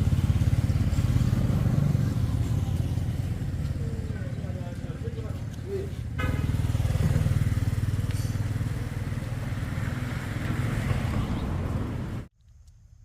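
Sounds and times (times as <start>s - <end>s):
small motorcycle engine running: 0.0s - 12.3s.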